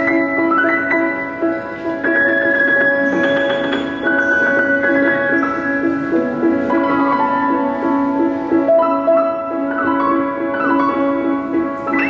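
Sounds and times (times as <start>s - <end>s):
solo piano: 0.0s - 12.0s.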